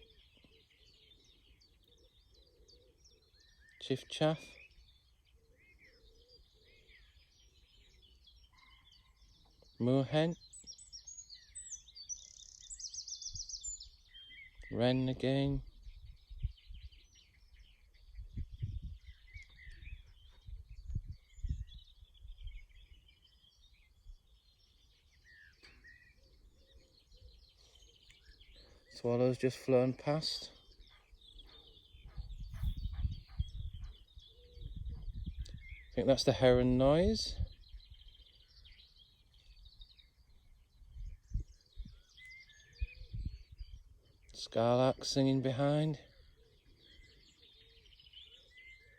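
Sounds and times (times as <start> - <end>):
other birds calling: 0.0 - 48.9
wren singing trills: 0.0 - 48.9.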